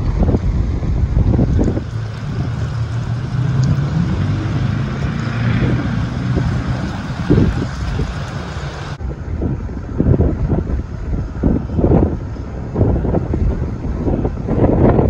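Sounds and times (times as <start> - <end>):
vehicle engine humming: 0.0 - 15.0
wind buffeting microphone: 0.0 - 15.0.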